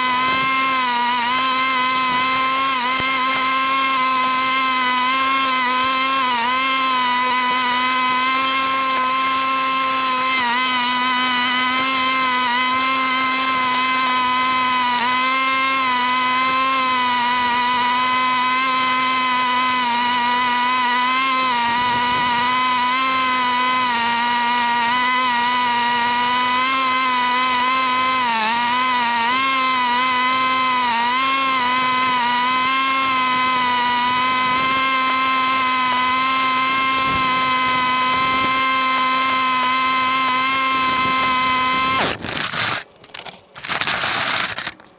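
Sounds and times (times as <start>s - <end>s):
lawn mower engine droning: 0.0s - 44.9s.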